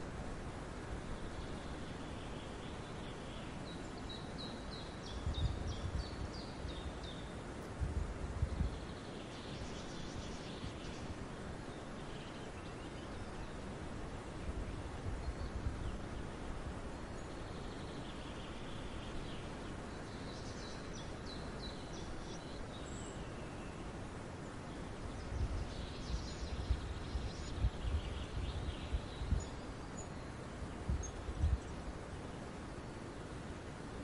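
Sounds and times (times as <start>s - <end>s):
steady hiss: 0.0s - 34.0s
small birds chirping: 1.0s - 7.4s, 8.4s - 33.0s.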